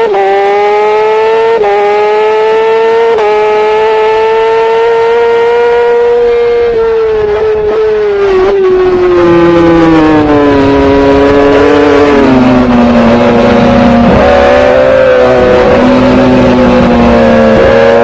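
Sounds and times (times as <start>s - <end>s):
superbike engine at high revs: 0.0s - 18.0s.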